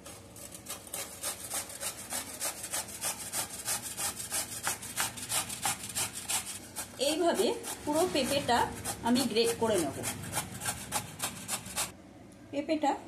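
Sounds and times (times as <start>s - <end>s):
papaya grated on metal grater: 0.3s - 11.9s.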